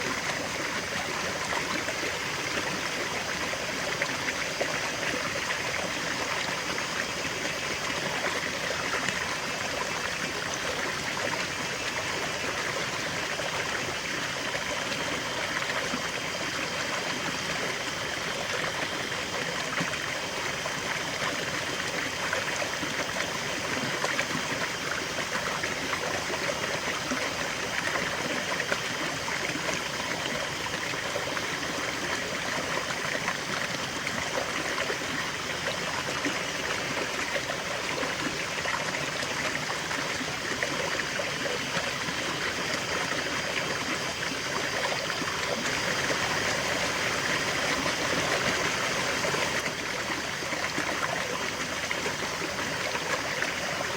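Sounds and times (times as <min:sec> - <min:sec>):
river water flowing over stones: 0:00.0 - 0:53.9.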